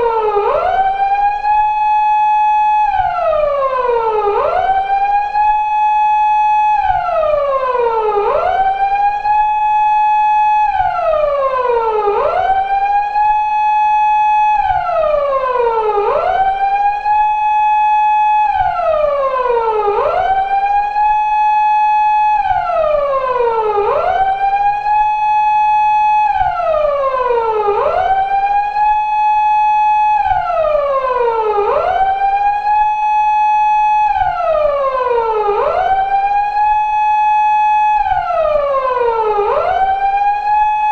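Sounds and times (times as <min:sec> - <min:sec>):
police car siren: 0:00.0 - 0:40.9.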